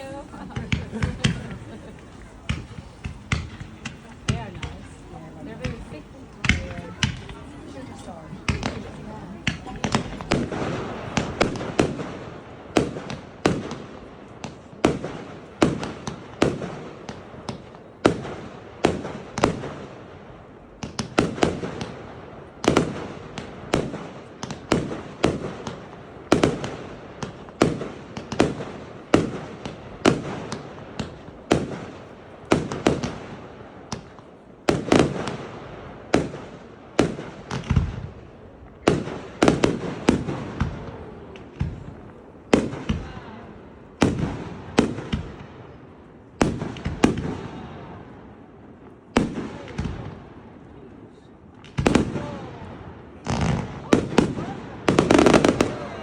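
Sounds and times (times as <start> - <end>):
fireworks bangs: 0.0 - 50.9, 51.5 - 56.0.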